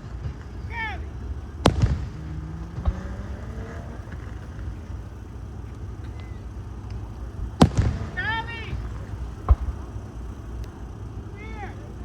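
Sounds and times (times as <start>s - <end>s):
fireworks shells bursting: 0.0s - 11.3s
low rumble: 0.0s - 12.0s.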